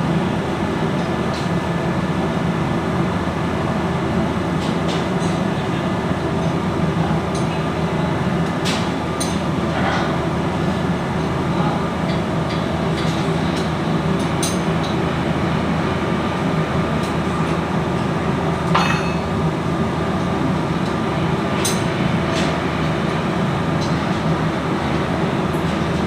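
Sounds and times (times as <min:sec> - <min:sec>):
low mechanical hum of machinery: 0:00.0 - 0:26.0.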